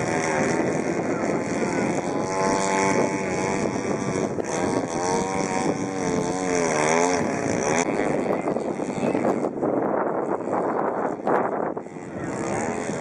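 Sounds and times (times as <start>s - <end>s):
model plane engine running: 0.0s - 13.0s.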